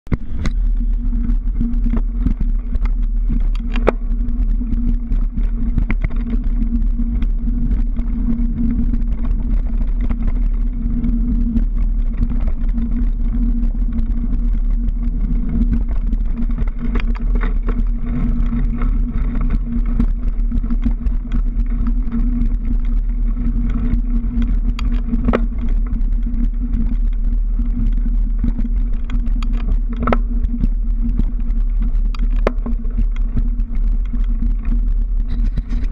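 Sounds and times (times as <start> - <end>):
rumble of wind and tyres: 0.0 - 35.9
bike rattling over stones: 0.1 - 35.9.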